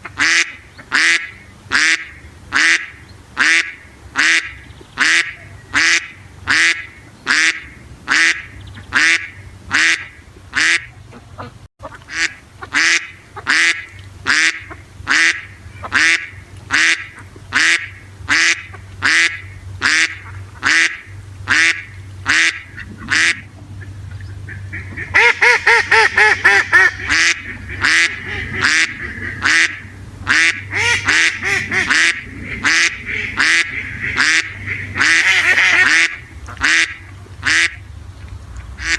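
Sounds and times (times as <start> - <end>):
ducks quacking: 0.0 - 37.8.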